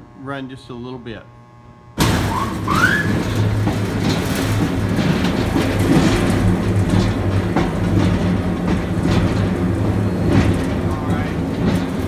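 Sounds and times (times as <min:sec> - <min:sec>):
meat grinder humming: 0:01.7 - 0:12.0
light irregular clatter: 0:02.3 - 0:12.0.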